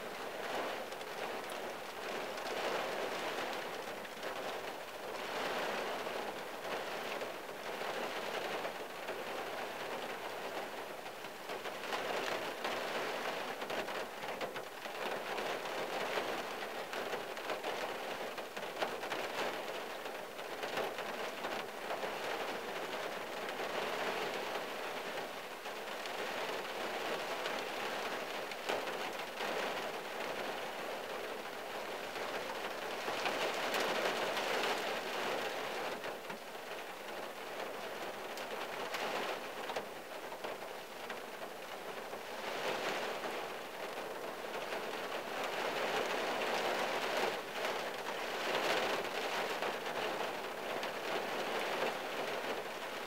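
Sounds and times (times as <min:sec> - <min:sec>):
rain on a car windshield: 0:00.0 - 0:53.0.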